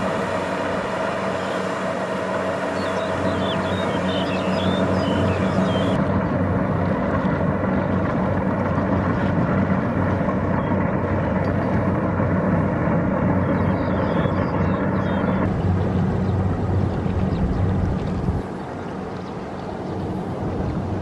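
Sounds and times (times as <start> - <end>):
combine harvester engine running: 0.0 - 21.0.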